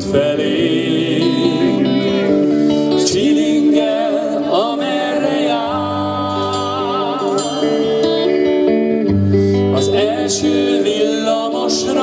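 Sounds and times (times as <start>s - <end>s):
person singing: 0.0s - 8.5s, 9.5s - 12.0s
live pop band playing: 0.0s - 12.0s.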